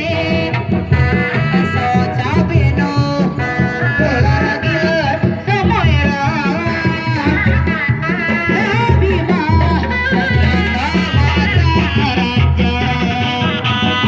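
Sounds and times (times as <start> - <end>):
drums beating: 0.0 - 14.0.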